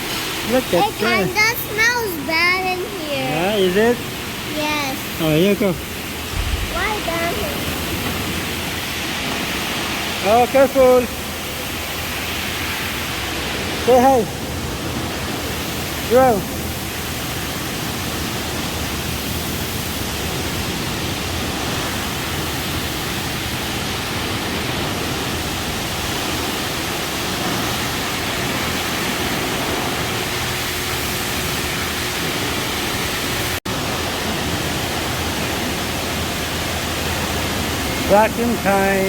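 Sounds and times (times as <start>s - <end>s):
car wash machinery rushing: 0.0s - 39.0s.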